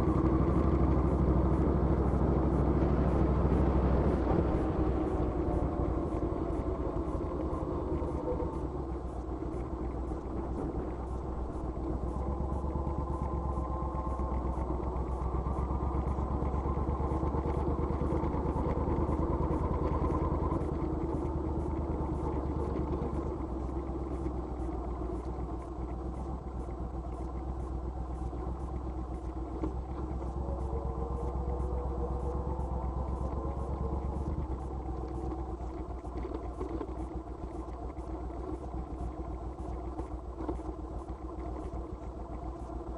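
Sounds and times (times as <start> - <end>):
motorcycle engine rumbling: 0.0 - 42.9.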